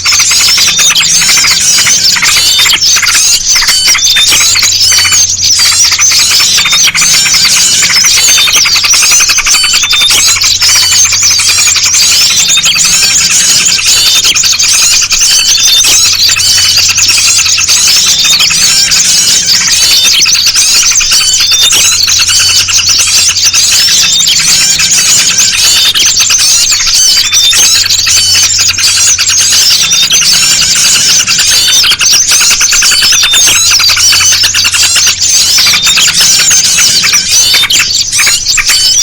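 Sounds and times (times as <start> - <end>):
songbirds chattering: 0.0 - 39.0.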